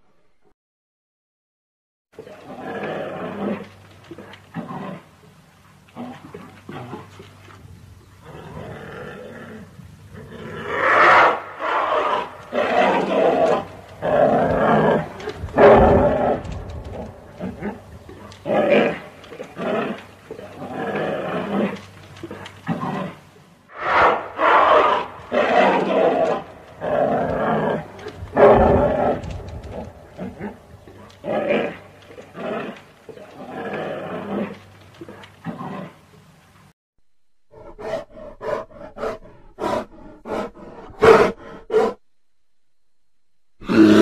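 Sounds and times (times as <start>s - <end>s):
bear growling and roaring: 2.2s - 7.6s, 8.2s - 36.2s, 37.5s - 42.0s, 43.6s - 44.0s.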